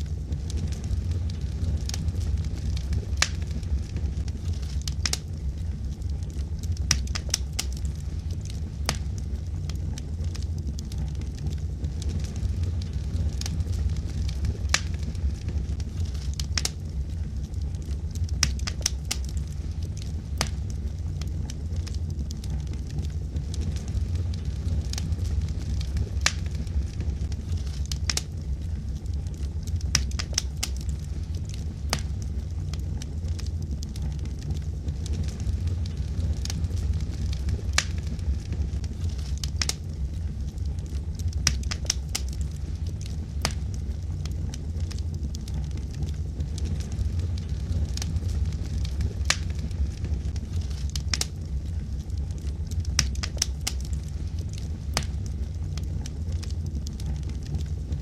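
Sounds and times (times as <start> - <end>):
fire crackling and popping: 0.0 - 58.0
low rumble of flame: 0.0 - 58.0.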